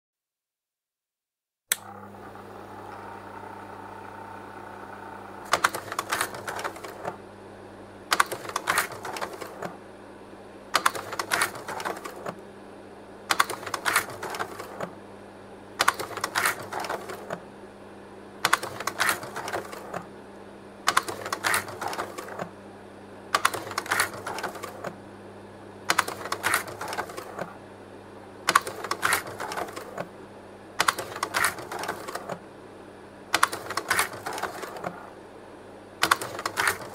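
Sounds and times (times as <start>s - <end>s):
slide projector fan humming: 1.7s - 36.9s.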